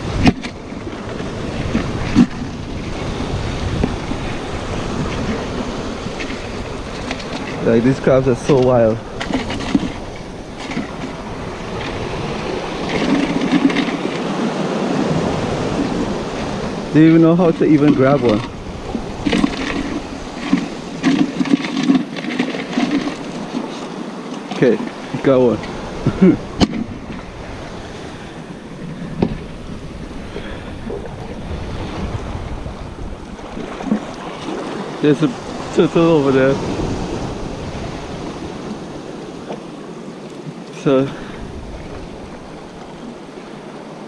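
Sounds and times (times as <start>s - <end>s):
surf washing against rocks: 0.0s - 44.0s
wind on microphone: 0.0s - 44.0s.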